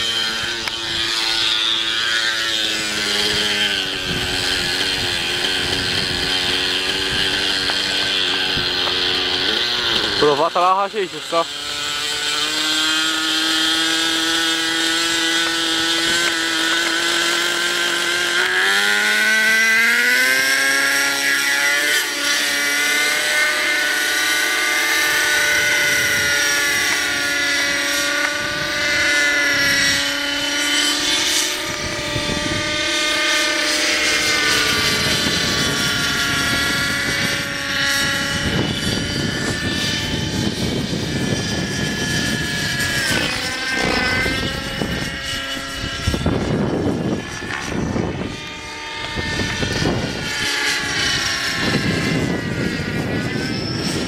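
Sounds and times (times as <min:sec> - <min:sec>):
rc helicopter engine: 0:00.0 - 0:54.0.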